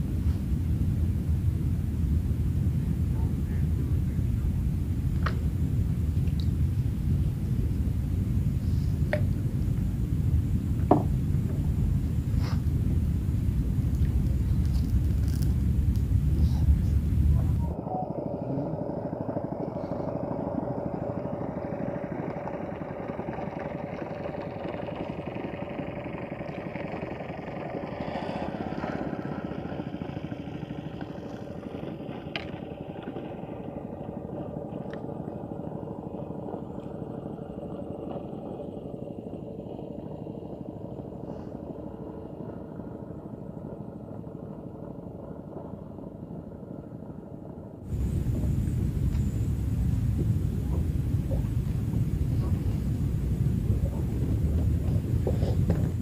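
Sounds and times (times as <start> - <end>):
loud low rumble: 0.0 - 56.0
small engine droning: 0.0 - 56.0.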